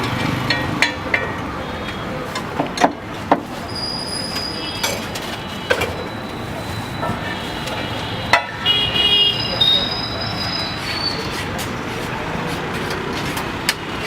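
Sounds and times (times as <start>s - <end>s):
background noise: 0.0s - 14.0s.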